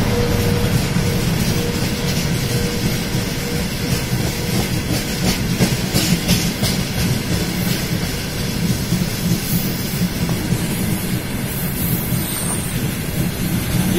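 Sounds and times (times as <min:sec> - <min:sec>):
steel wheels rumbling on rails: 0:00.0 - 0:13.9
wheels clacking over rail joints: 0:00.0 - 0:13.9.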